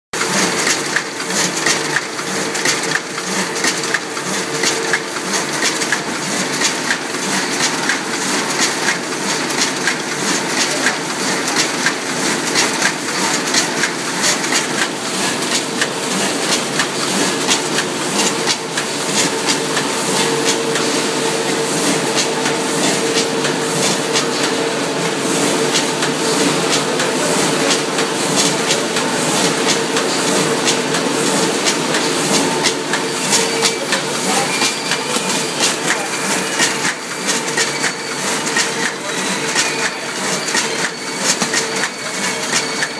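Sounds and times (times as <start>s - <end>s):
bagging machine clattering: 0.2s - 42.9s
steady machine hum: 0.2s - 42.9s.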